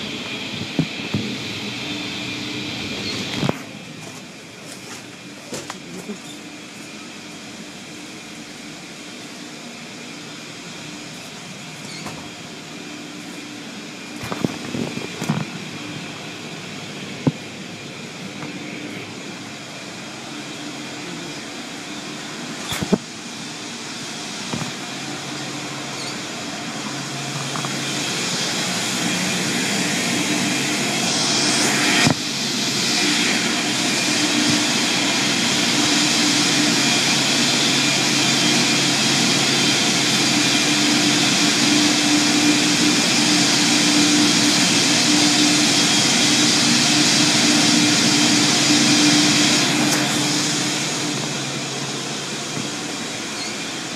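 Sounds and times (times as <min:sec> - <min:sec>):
car wash rushing noise: 0:00.0 - 0:53.9.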